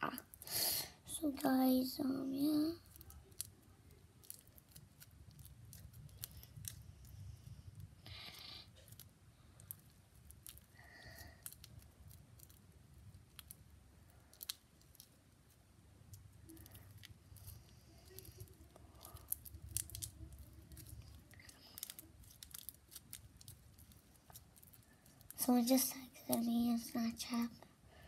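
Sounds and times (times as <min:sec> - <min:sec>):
sticky slime stretching: 0:00.0 - 0:27.4
faint clicks and crackles: 0:01.1 - 0:28.0.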